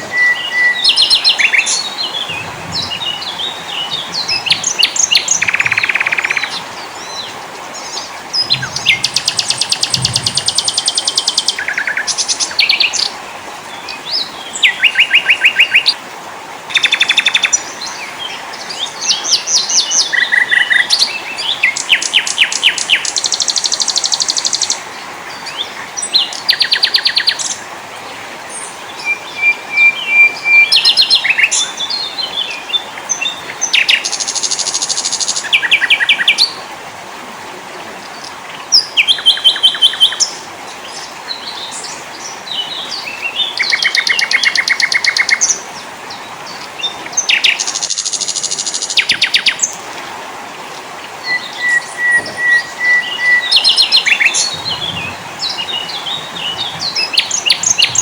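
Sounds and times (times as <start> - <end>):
songbirds singing: 0.0 - 16.1, 16.7 - 58.0
steady background hiss: 0.0 - 58.0.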